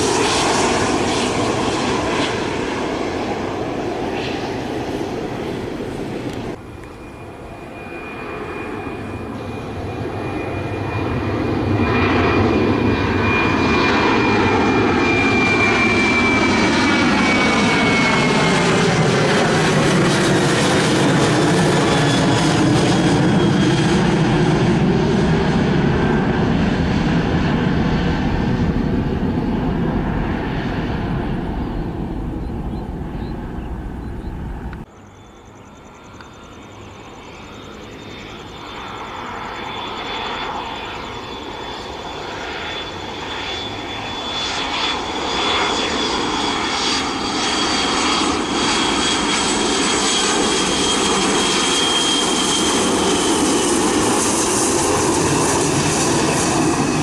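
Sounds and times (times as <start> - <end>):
jet engines roaring on takeoff: 0.0 - 57.0
jet engines whining on approach: 0.0 - 57.0.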